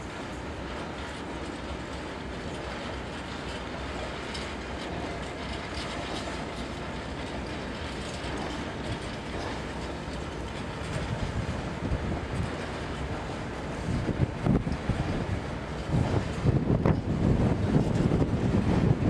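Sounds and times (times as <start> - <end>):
diesel locomotive low rumble: 0.0 - 19.0
train wheels clattering over rails: 0.0 - 19.0.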